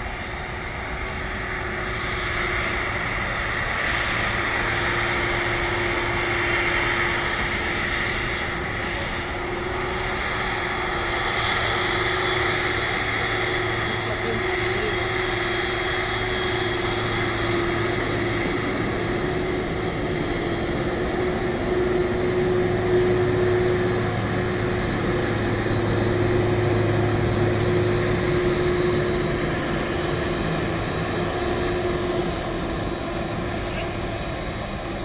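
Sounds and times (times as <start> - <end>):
jet engines taxiing: 0.0 - 35.0.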